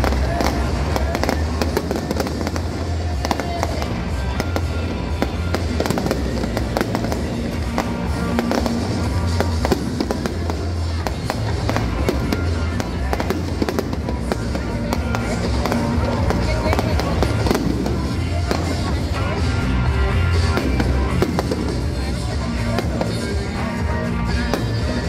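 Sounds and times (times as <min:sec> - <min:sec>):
fireworks bursting and crackling: 0:00.0 - 0:25.0
loud music with steady bass: 0:00.0 - 0:25.0.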